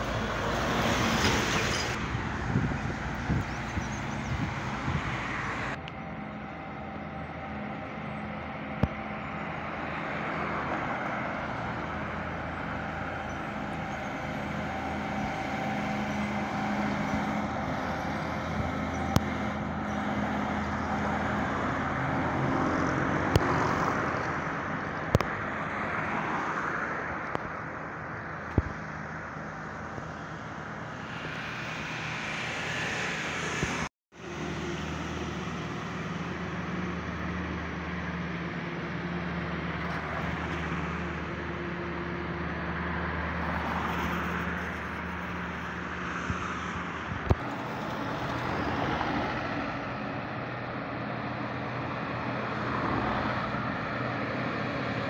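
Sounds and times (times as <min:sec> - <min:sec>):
diesel trucks driving past: 0:00.0 - 0:55.0.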